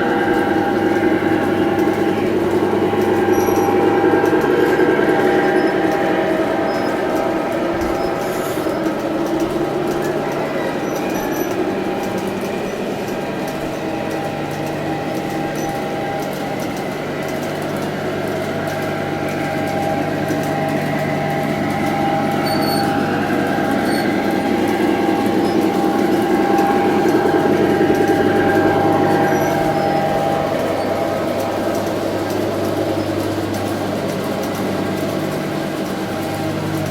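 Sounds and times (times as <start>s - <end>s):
model train humming on track: 0.0s - 36.9s.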